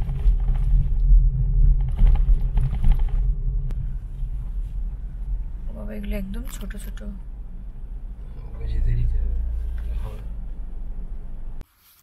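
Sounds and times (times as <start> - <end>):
car engine and tyre rumble: 0.0 - 11.7.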